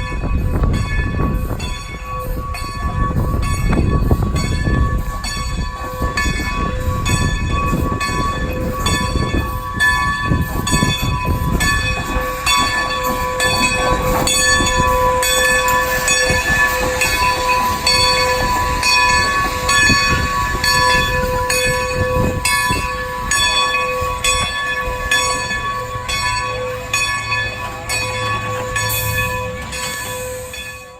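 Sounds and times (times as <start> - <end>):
locomotive bell ringing: 0.0 - 30.9
train rolling rumble: 0.0 - 30.9.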